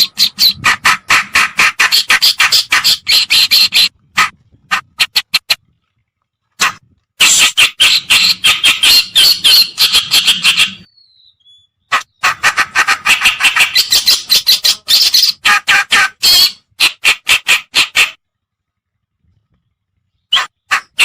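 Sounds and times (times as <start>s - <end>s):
bird harsh chattering song: 0.0s - 5.6s, 7.2s - 18.2s, 20.1s - 21.0s.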